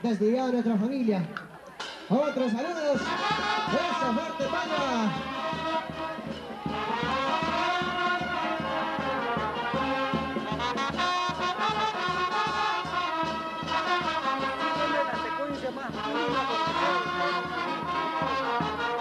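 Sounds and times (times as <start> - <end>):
band playing dance music: 0.0 - 19.0
wind instruments melody: 0.0 - 19.0
steady beat: 1.4 - 19.0.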